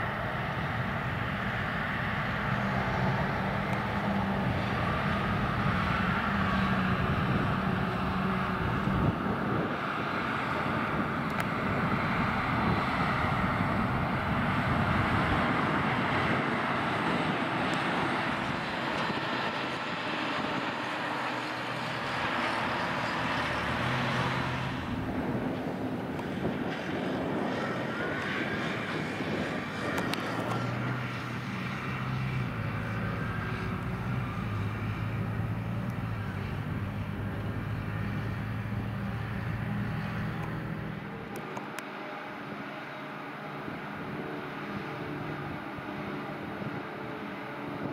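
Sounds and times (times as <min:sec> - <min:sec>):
harvester engine drone: 0:00.0 - 0:47.9
tractor engine drone: 0:00.0 - 0:47.9.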